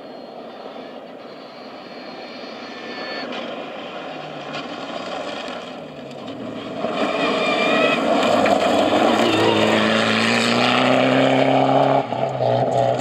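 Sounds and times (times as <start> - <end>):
rally car engine approaching: 0.0 - 13.0.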